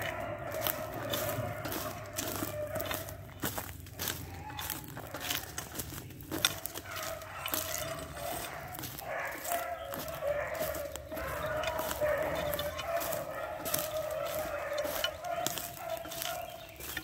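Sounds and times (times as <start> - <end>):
distant animal calls: 0.0 - 17.0
footsteps crunching over brush: 0.0 - 17.0.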